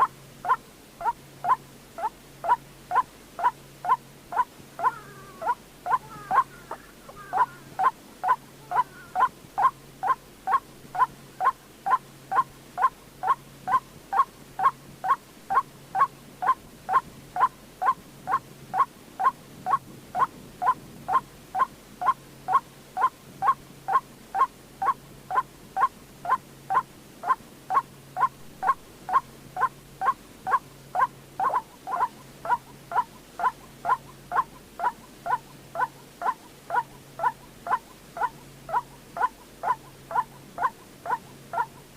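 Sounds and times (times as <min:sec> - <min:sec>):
waterhen calling: 0:00.0 - 0:41.9.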